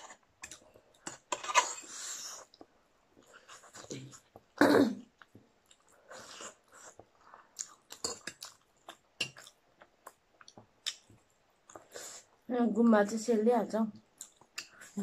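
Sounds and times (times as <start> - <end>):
slurping and chewing noodles: 0.0 - 12.4.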